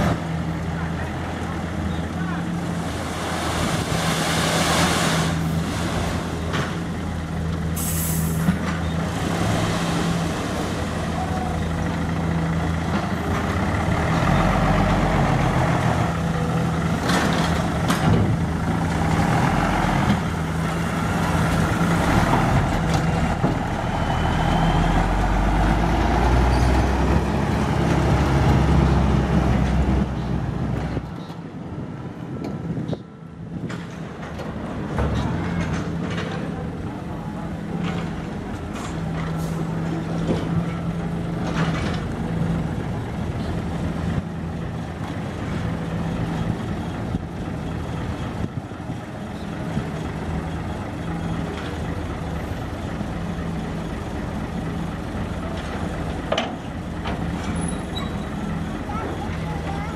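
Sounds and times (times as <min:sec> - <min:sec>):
diesel truck engine running: 0:05.4 - 0:31.7, 0:34.5 - 0:59.9.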